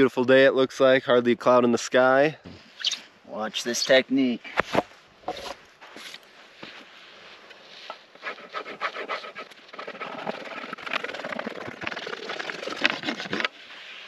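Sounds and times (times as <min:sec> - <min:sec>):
rubbing and scraping strokes: 0:02.6 - 0:14.0.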